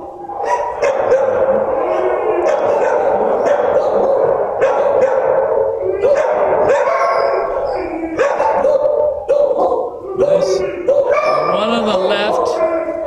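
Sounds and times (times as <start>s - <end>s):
dogs barking and howling: 0.0s - 13.0s.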